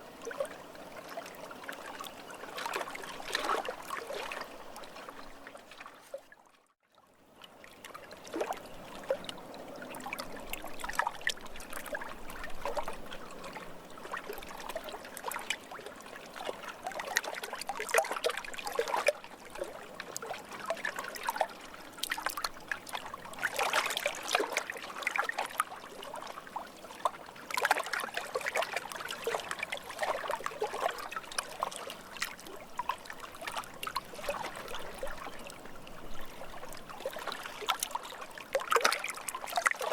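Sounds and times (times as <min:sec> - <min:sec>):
lake water lapping: 0:00.0 - 0:06.6, 0:07.4 - 0:39.9.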